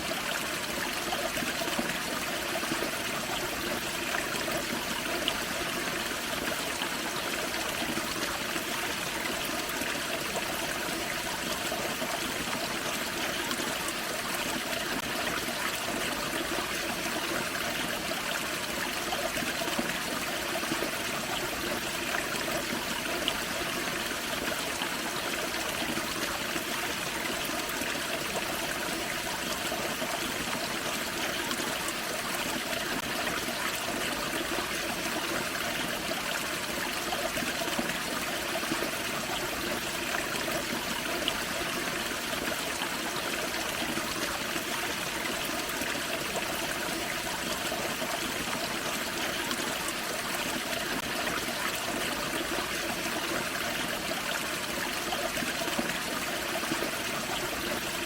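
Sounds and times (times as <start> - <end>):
creek over small waterfall: 0.0 - 58.0.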